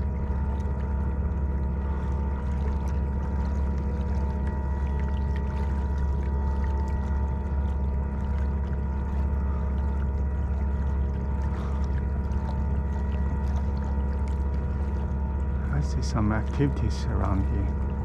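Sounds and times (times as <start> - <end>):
water washing along hull: 0.0 - 18.0.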